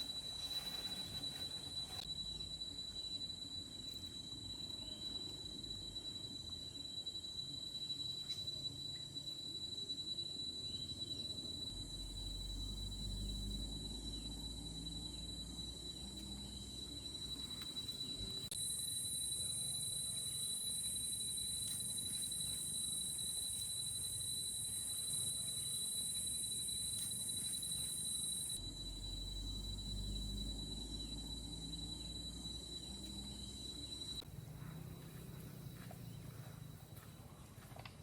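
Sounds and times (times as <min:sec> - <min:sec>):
faint chirps: 0:00.0 - 0:37.4
insects droning: 0:00.0 - 0:37.7.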